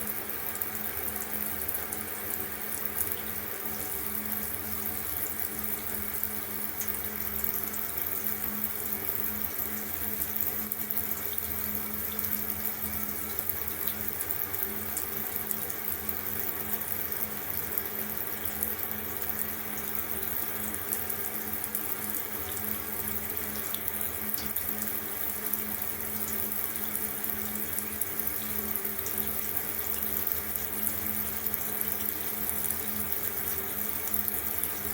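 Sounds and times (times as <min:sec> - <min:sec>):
tap water running into sink: 0:00.0 - 0:34.9.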